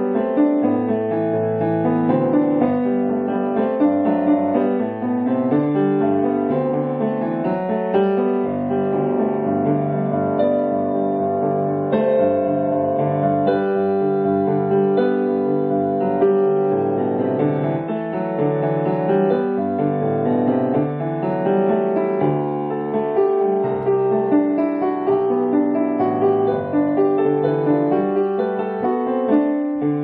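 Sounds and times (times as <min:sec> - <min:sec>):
piano music with held notes: 0:00.0 - 0:30.0.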